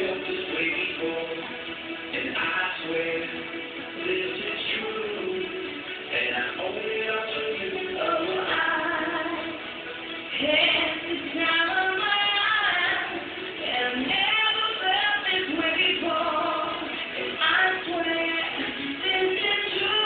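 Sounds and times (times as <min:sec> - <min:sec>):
musical accompaniment: 0:00.0 - 0:20.0
performers singing: 0:00.0 - 0:20.0.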